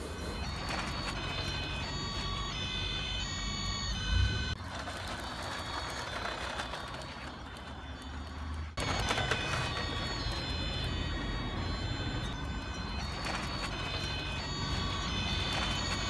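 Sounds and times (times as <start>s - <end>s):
steady background noise: 0.0s - 16.0s
toy fire truck siren: 0.0s - 16.0s.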